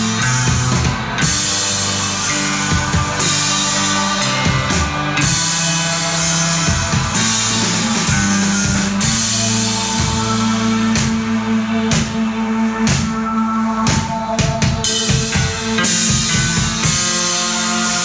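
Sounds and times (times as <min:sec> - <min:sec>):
drum kit with cymbal crashes: 0:00.0 - 0:18.0
electric bass low notes: 0:00.0 - 0:18.0.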